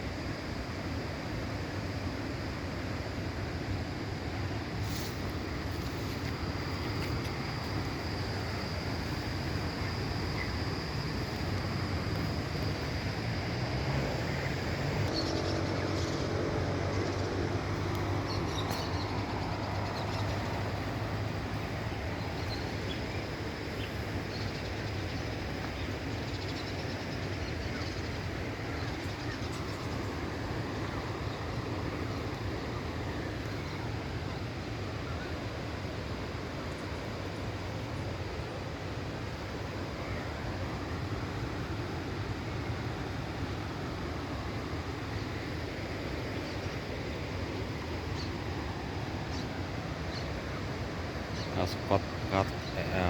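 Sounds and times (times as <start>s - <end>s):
rushing river or waterfall: 0.0s - 53.0s.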